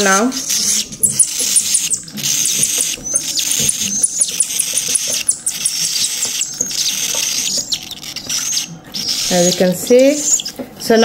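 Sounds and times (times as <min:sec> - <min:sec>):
chick food-begging calls: 0:00.0 - 0:10.6.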